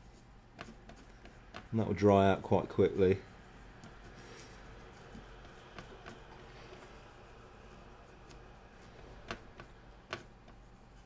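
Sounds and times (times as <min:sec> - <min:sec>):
cloth rubbing: 0:00.0 - 0:11.0.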